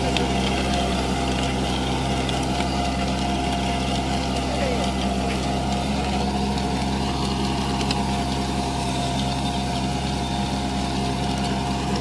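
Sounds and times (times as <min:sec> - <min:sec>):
rotavator whine: 0:00.0 - 0:12.0
tractor diesel engine running: 0:00.0 - 0:12.0.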